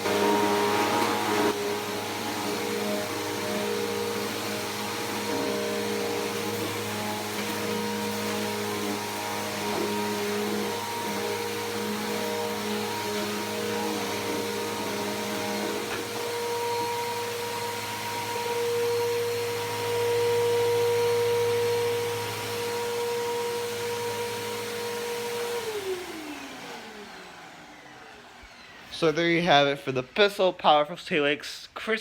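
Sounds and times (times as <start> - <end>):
upright vacuum cleaner running: 0.0 - 30.3.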